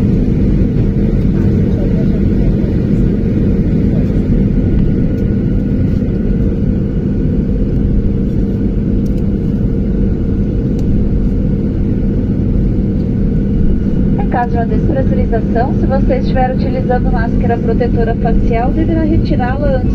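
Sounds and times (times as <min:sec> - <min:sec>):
airliner cabin rumble and hum: 0:00.0 - 0:19.9.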